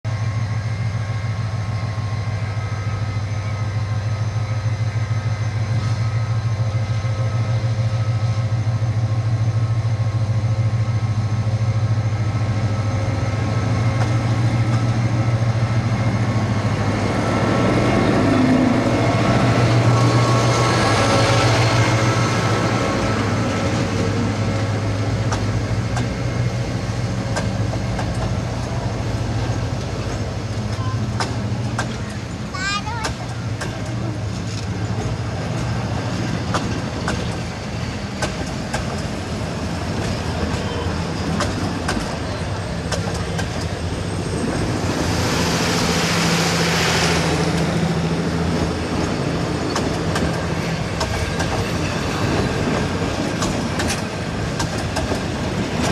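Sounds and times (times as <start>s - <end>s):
diesel locomotive engine drone: 0.0s - 55.9s
train wheels clicking on rail joints: 5.4s - 55.9s.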